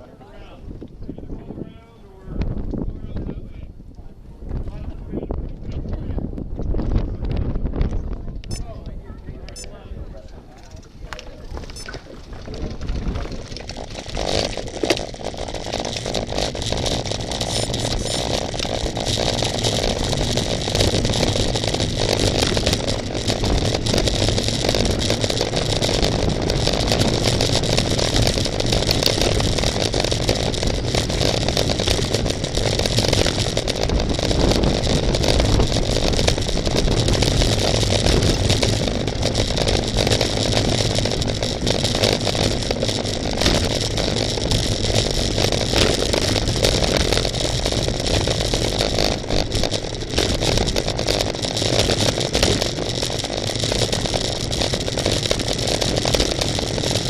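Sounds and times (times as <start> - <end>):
bicycle road rumble and clatter: 0.0 - 57.0
wind on microphone: 0.0 - 57.0.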